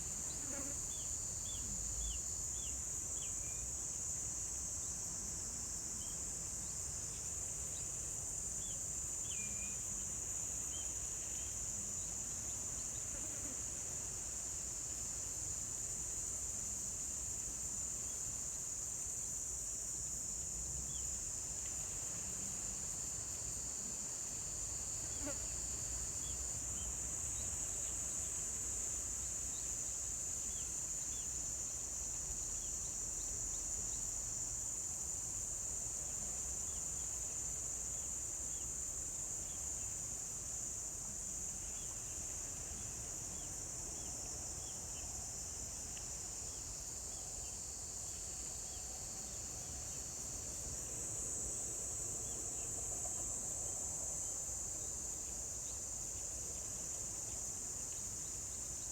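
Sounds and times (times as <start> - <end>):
faint insect chirps: 0.0 - 58.9.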